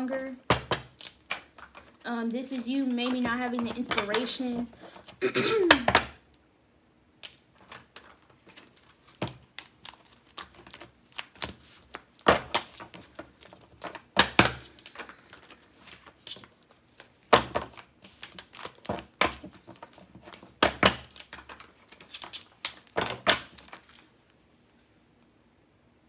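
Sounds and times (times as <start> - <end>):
cards clicking and rustling: 0.4 - 6.2, 7.2 - 24.2
cards slapping: 0.4 - 6.2, 7.2 - 24.1.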